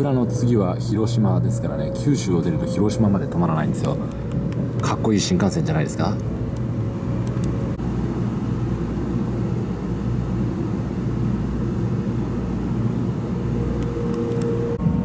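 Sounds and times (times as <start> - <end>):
steady whine: 0.0 - 15.0
train cabin rumble: 0.0 - 15.0.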